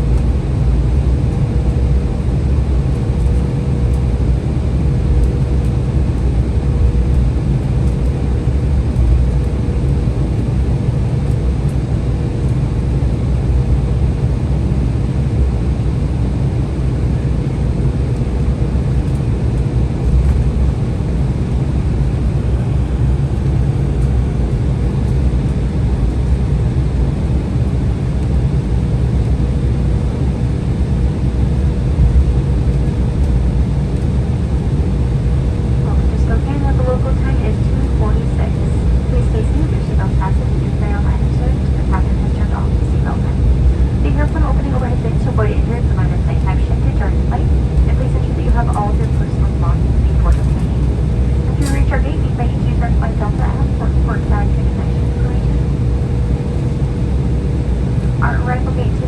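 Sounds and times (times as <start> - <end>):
airliner cabin engine rumble: 0.0 - 59.0
faint steady hum: 0.0 - 59.0.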